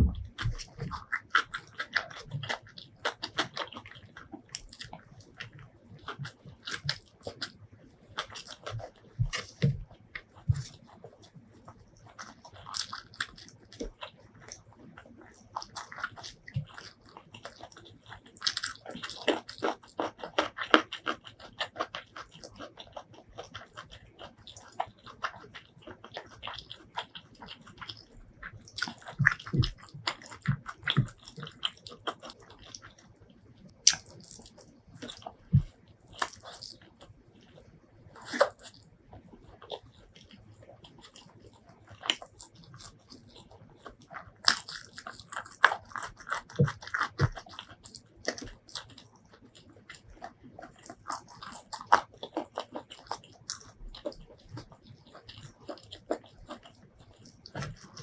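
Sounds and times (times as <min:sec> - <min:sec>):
wet chewing and lip-smacking: 0:00.0 - 0:58.0.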